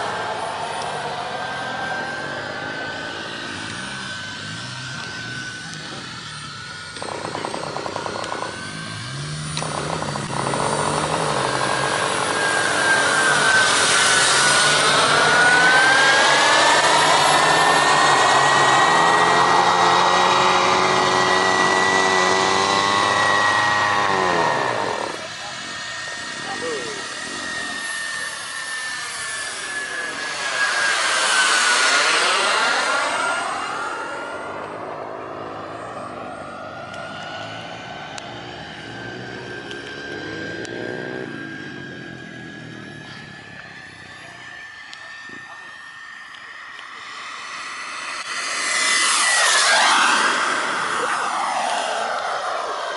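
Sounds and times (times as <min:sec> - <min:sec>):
jet engine whine flying past: 0:00.0 - 0:52.9.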